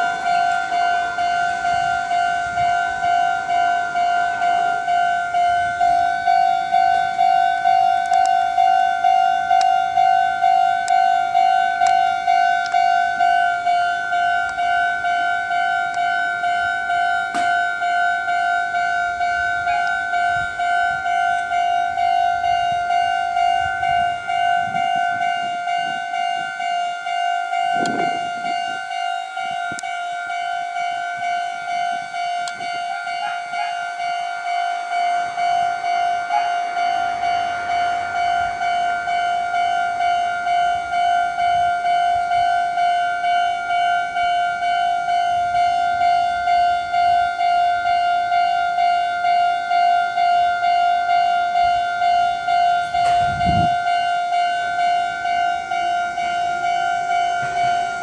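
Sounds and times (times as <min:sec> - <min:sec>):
level crossing alarm bell clanging: 0:00.0 - 0:58.0.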